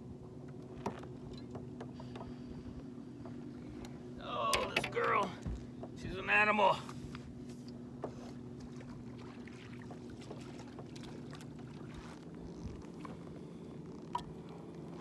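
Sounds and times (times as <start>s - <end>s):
boat low hum: 0.0s - 15.0s.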